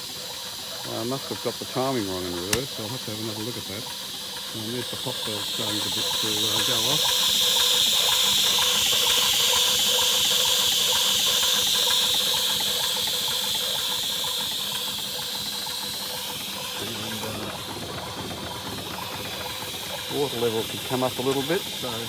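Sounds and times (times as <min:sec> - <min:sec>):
loud steady steam hiss: 0:00.0 - 0:22.0
safety valve blowing off steam: 0:00.0 - 0:22.0.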